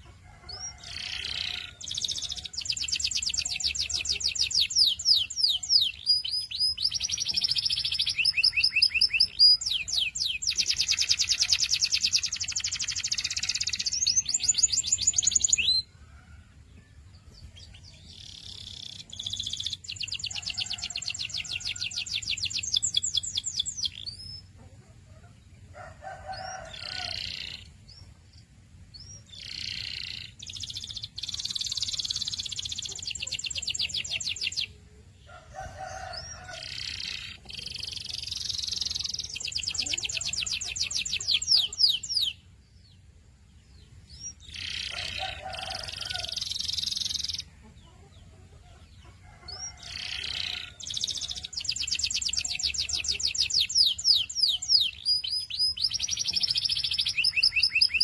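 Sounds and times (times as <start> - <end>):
canary singing high trills: 0.0 - 16.0, 17.4 - 24.5, 26.2 - 28.1, 28.9 - 34.8, 35.6 - 42.5, 44.1 - 47.5, 49.4 - 58.0.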